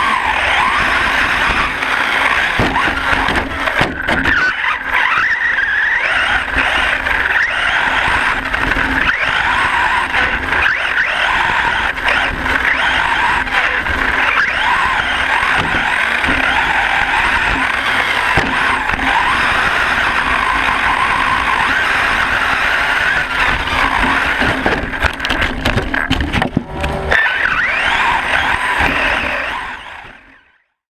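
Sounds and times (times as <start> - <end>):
electric motor whine: 0.0 - 30.6
tyres and chassis clatter: 0.0 - 30.6.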